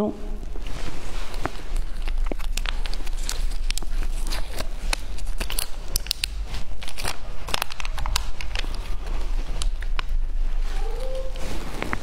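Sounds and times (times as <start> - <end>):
plastic packaging crackling: 0.4 - 12.0.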